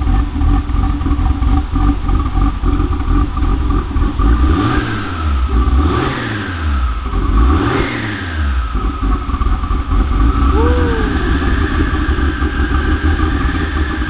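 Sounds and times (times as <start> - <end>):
car engine rumbling and revving: 0.0 - 14.0.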